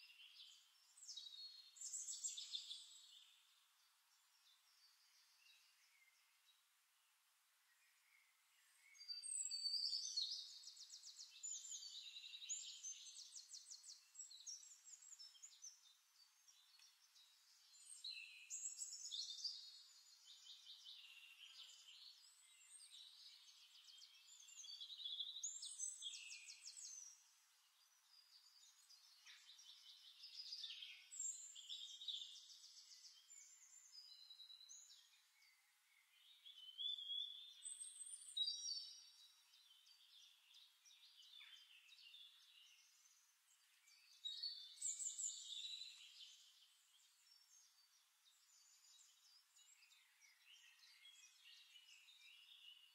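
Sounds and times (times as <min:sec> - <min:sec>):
faint birdsong trills and chirps: 0:00.0 - 0:52.9.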